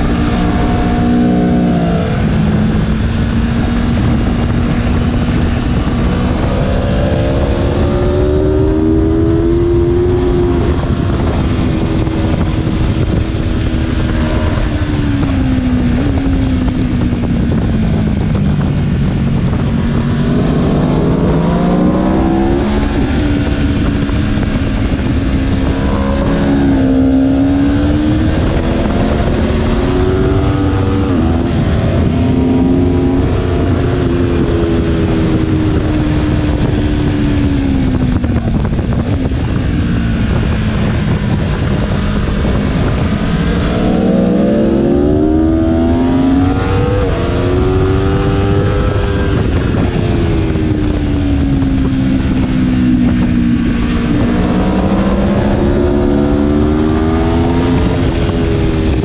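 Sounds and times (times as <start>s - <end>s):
motorcycle engine revving: 0.0s - 59.0s
wind rush on microphone: 0.0s - 59.0s.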